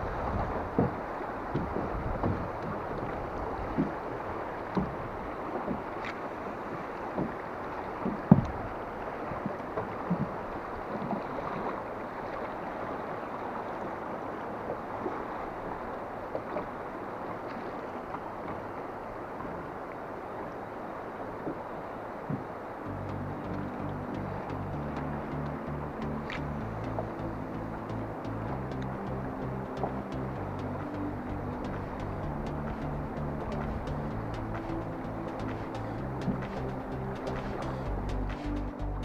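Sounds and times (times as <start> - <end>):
water slapping boat hull: 0.0 - 39.0
wind and waves rushing: 0.0 - 39.0.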